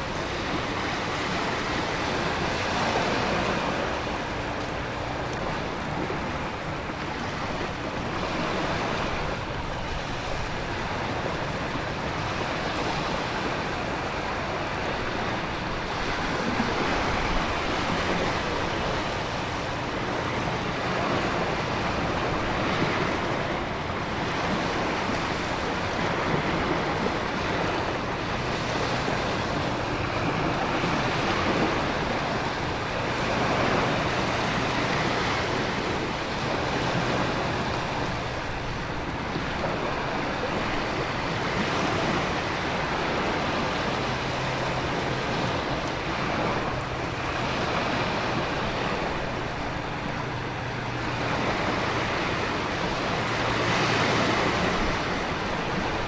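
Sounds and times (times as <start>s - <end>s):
ocean surf surging: 0.0s - 56.0s.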